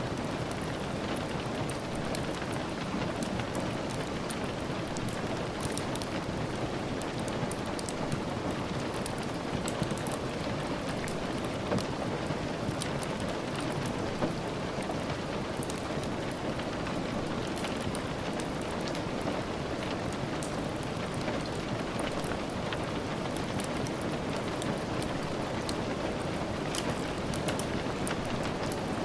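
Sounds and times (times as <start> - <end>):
steady rain: 0.0 - 29.0
wood fire crackling: 0.1 - 29.0.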